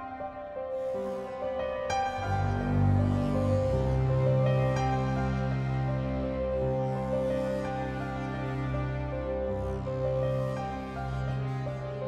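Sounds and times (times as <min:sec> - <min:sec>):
slow sad background music: 0:00.0 - 0:12.0.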